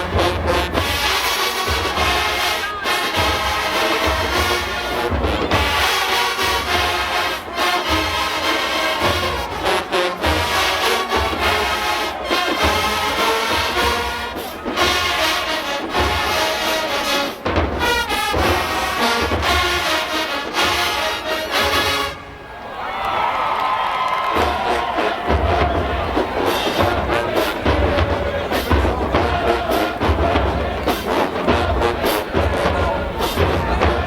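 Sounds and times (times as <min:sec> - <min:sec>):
tubas and drums: 0:00.0 - 0:22.6, 0:23.2 - 0:34.0
marching band brass: 0:00.0 - 0:34.0.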